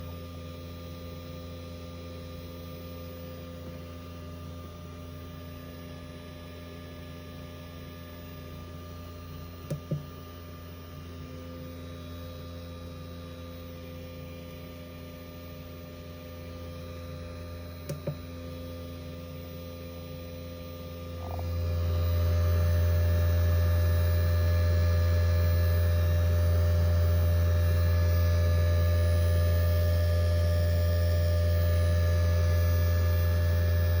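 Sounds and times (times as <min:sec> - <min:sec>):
electrical hum: 0:02.2 - 0:34.0.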